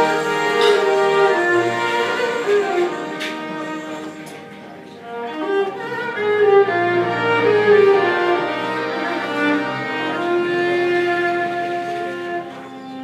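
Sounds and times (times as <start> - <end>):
accordion: 0.0 - 13.0
double bass: 0.0 - 13.0
fiddle melody: 0.0 - 13.0.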